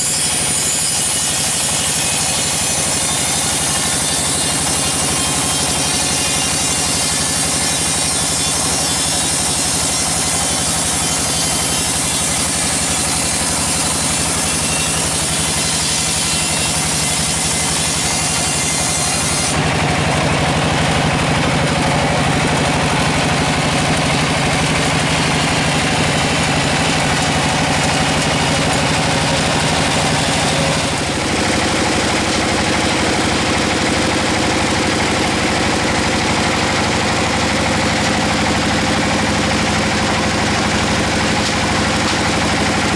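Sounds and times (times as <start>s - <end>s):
sawmill machinery droning: 0.0s - 42.9s.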